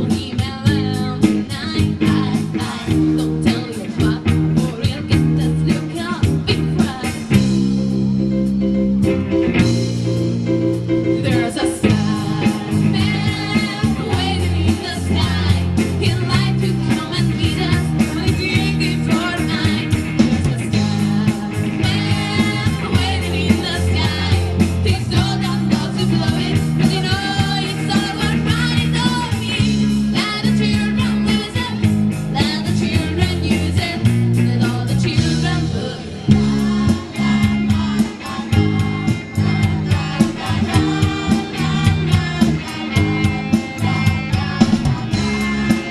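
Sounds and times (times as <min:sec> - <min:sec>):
woman singing with vibrato: 0:00.0 - 0:07.6, 0:11.2 - 0:45.9
live rock band: 0:00.0 - 0:45.9.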